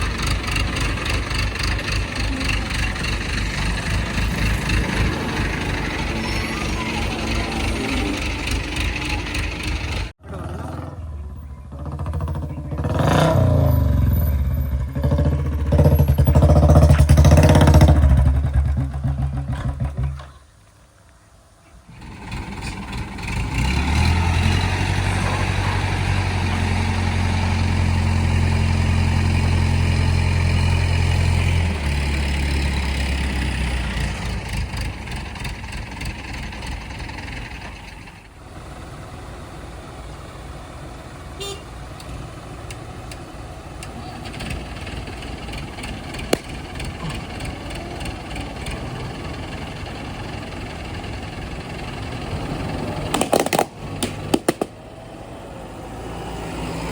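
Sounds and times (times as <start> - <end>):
diesel engine running: 0.0 - 20.4, 21.8 - 56.9.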